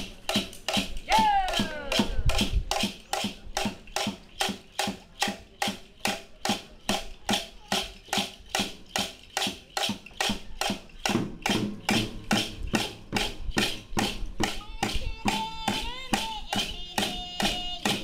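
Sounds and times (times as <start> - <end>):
steady percussive beat: 0.0 - 18.0.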